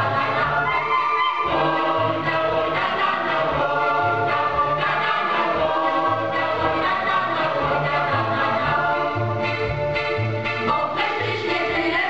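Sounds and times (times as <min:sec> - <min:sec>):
chorus singing folk song: 0:00.0 - 0:12.0.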